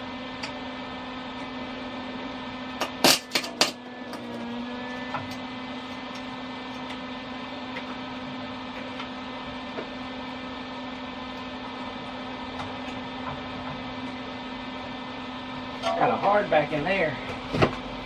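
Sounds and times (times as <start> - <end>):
welder humming and hissing: 0.0 - 15.6.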